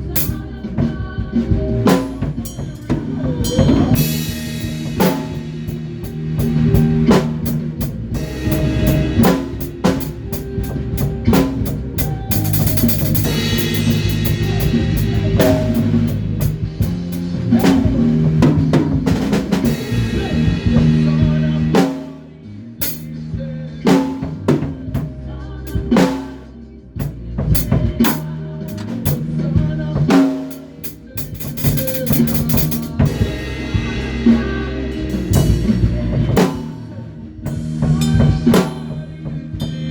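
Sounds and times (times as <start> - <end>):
bass guitar notes: 0.0 - 39.9
drum kit playing: 0.0 - 39.9.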